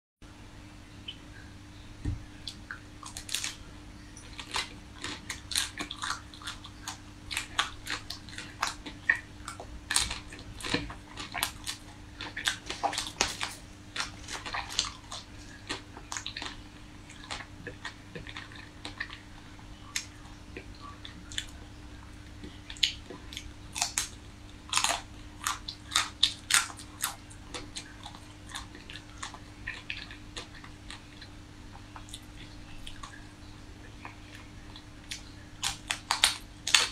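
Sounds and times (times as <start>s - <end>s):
chewing: 2.4s - 36.9s
crunching frozen ice cream bars: 2.5s - 36.9s.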